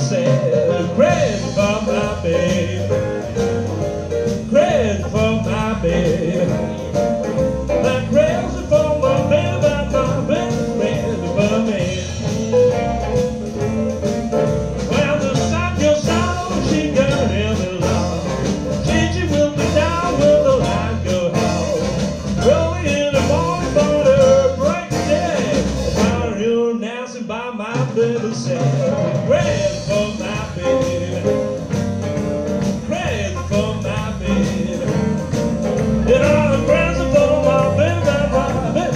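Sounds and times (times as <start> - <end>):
male lead singer: 0.0 - 14.2, 14.8 - 38.9
live blues band playing: 0.0 - 38.9.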